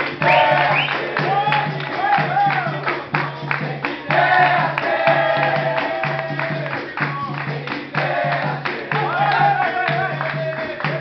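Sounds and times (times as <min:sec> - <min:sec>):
group singing: 0:00.0 - 0:11.0
rhythmic strikes: 0:00.0 - 0:11.0.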